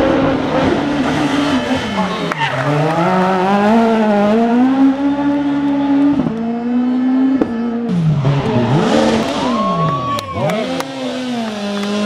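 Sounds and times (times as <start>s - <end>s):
rally car engine revving: 0.0s - 12.0s
second rally car engine: 0.0s - 12.0s.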